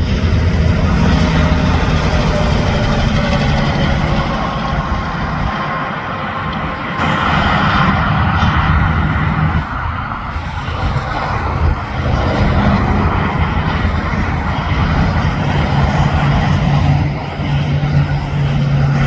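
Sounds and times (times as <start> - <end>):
diesel truck engine drone: 0.0 - 19.0.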